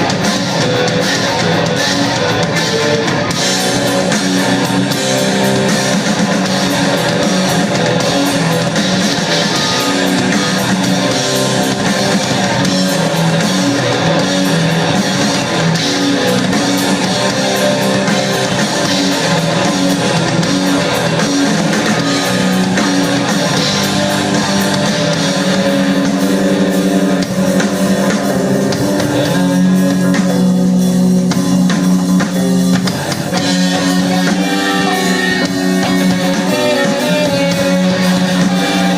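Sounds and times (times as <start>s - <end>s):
bass guitar: 0.0s - 38.9s
drum kit: 0.0s - 38.9s
electric guitars: 0.0s - 38.9s.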